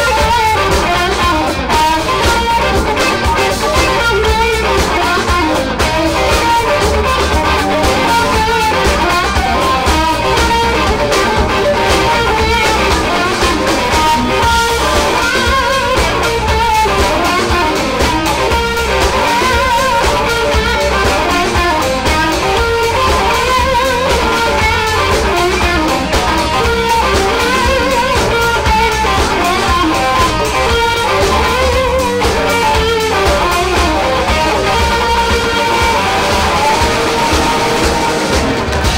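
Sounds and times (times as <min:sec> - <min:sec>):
blues band playing: 0:00.0 - 0:38.9
electric guitar soloing: 0:00.0 - 0:38.9.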